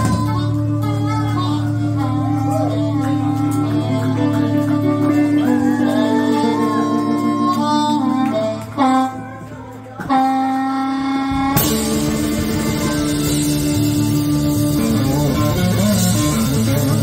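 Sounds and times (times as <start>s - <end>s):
bass and drums: 0.0s - 10.4s, 11.0s - 17.0s
amplified blues harmonica: 0.0s - 17.0s.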